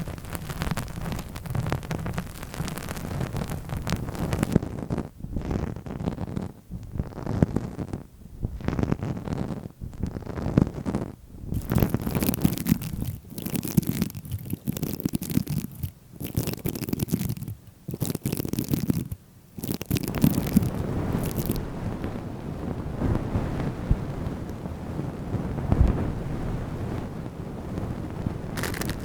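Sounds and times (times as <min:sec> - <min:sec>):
close-miked scratching and rubbing: 0:00.0 - 0:22.2, 0:27.7 - 0:29.0.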